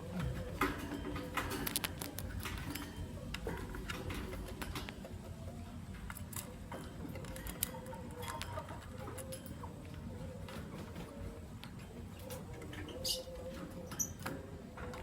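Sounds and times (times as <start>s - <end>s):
birds clicking and tapping in cage: 0.0s - 15.0s.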